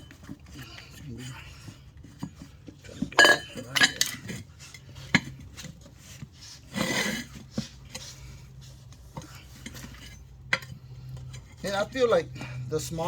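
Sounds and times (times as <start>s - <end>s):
metal tool scraping wheel rim: 0.0s - 13.0s.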